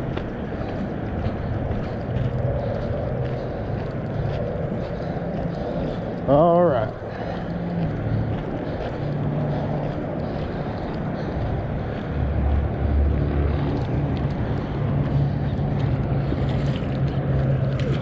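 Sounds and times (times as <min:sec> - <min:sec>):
deeper rumble: 0:00.0 - 0:18.0
road traffic rumble: 0:00.0 - 0:18.0
wind on microphone: 0:00.0 - 0:18.0.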